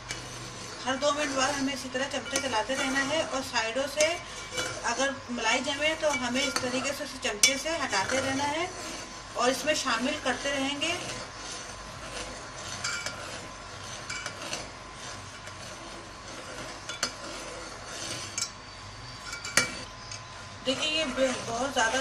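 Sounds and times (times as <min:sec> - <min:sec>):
spoon scraping metal pot: 0:00.0 - 0:22.0.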